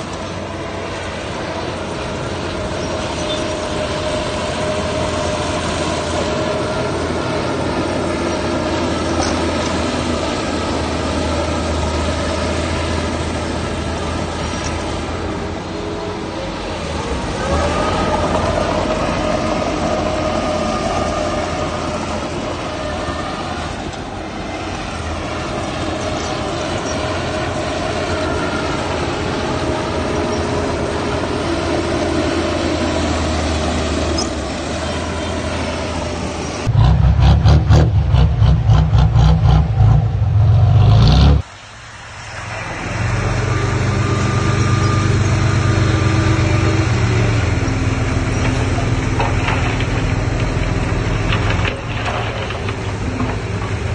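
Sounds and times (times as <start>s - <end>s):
heavy diesel machinery engine: 0.0s - 53.9s.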